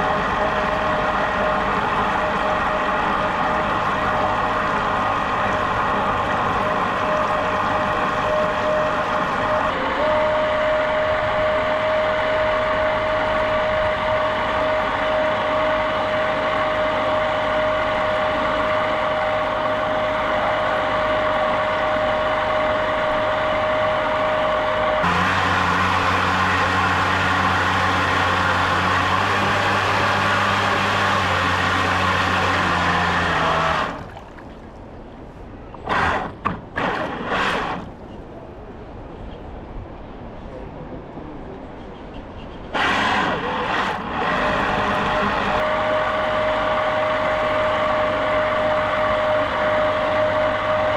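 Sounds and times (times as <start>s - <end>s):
boat motor whining: 0.0s - 38.3s, 42.3s - 50.9s.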